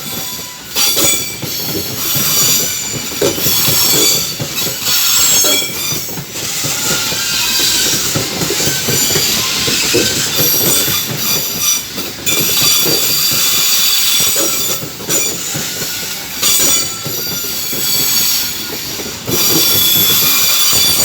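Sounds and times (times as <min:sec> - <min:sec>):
train wheels squealing: 0:00.0 - 0:21.0
wheels clattering on rails: 0:00.0 - 0:21.0.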